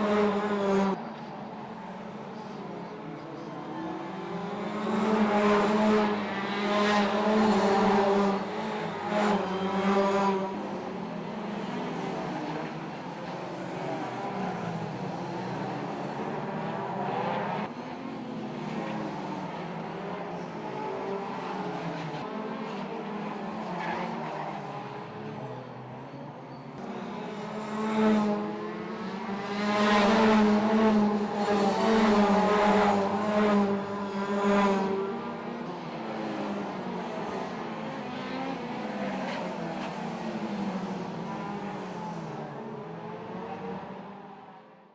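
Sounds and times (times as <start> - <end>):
race car engines passing: 0.0 - 44.7.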